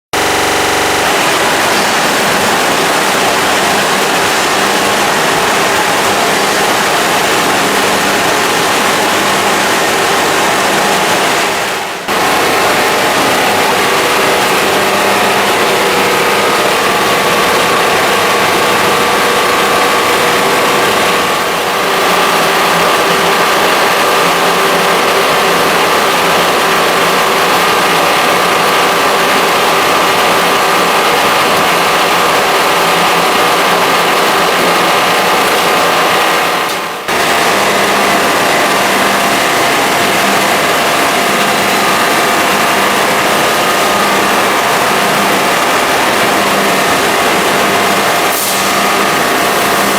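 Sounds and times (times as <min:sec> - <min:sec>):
washing machine running with whine: 0:00.1 - 0:49.9.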